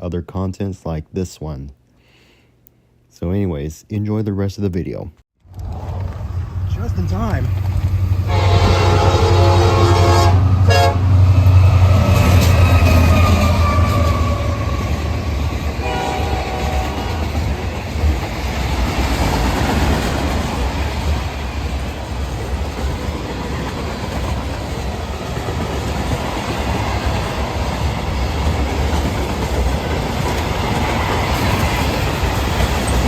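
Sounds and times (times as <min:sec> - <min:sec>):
freight train passing: 0:05.5 - 0:33.0.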